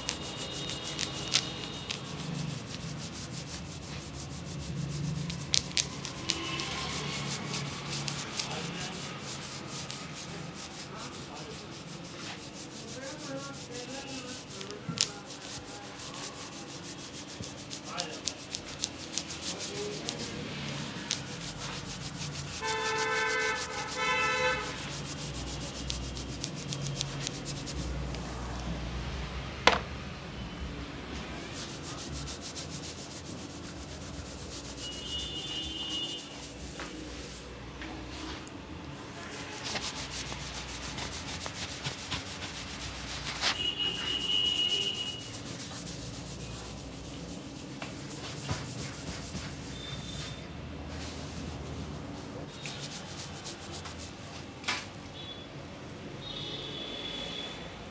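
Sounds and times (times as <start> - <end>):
fingers rubbing through damp hair: 0.0 - 28.7, 31.3 - 38.4, 39.0 - 51.6, 52.4 - 54.4.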